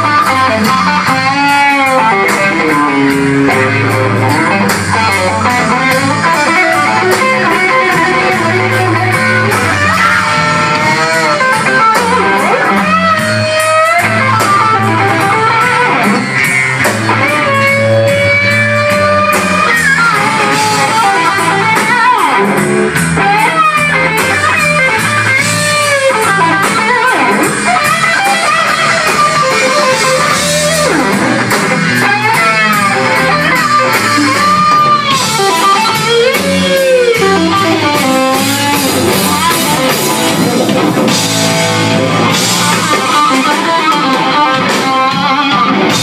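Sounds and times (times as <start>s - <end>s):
bass guitar: 0.0s - 46.0s
drums: 0.0s - 46.0s
electric guitar bending notes: 0.0s - 46.0s.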